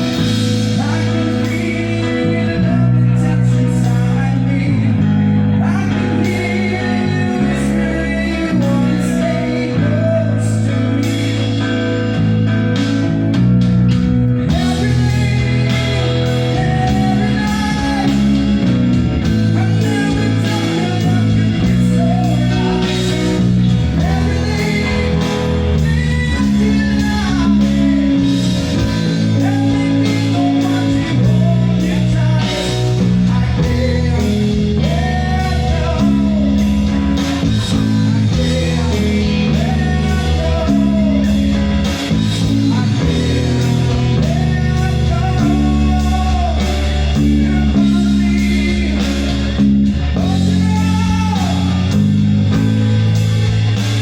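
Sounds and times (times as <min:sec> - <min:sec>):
rock song with vocals: 0:00.0 - 0:54.0.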